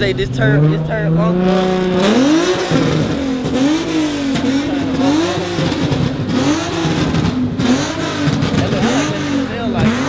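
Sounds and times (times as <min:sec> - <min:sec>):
car engine revving: 0:00.0 - 0:10.0
other engines running: 0:00.0 - 0:10.0.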